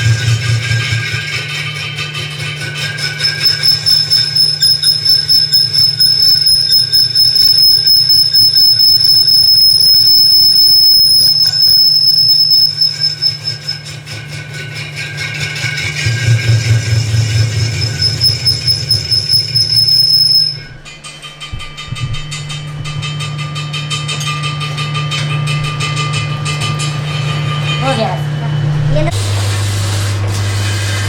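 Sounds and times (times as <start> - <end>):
low machine hum: 0.0 - 14.0, 15.0 - 31.0
high-pitched metallic squeal: 0.0 - 31.0.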